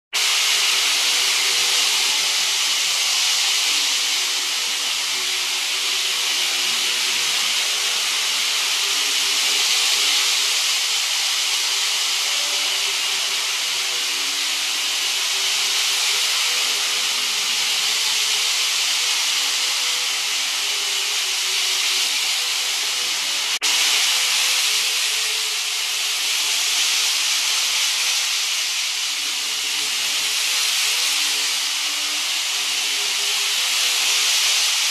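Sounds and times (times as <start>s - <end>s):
model train whirring on rails: 0.2s - 34.9s.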